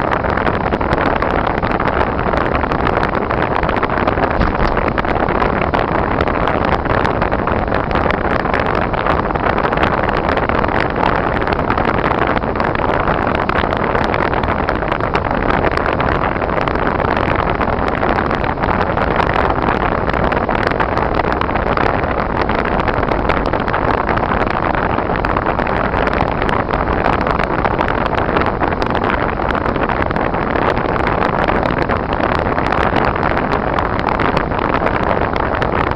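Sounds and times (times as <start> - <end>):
tyre and road noise: 0.0 - 35.9.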